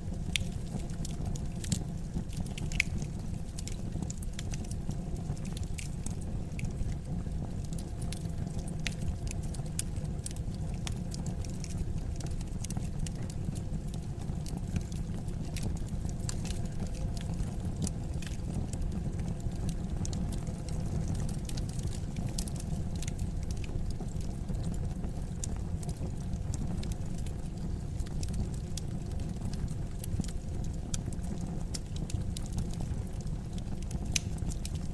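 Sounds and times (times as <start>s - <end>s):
low fire rumble: 0.0s - 34.9s
wood fire crackling: 0.0s - 34.9s.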